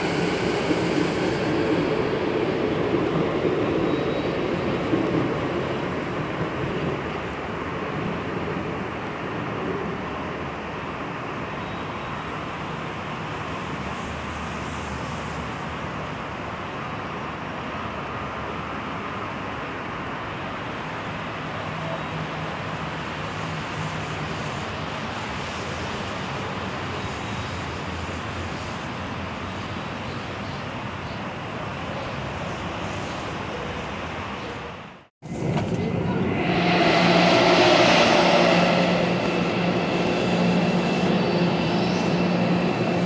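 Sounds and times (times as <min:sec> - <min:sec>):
distant road traffic: 0:00.0 - 0:43.0.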